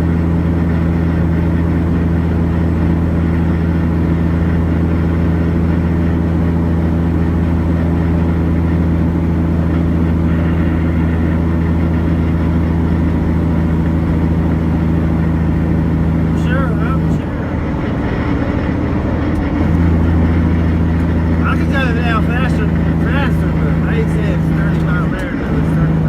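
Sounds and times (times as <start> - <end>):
diesel truck engine drone: 0.0 - 26.0
road noise: 0.0 - 26.0.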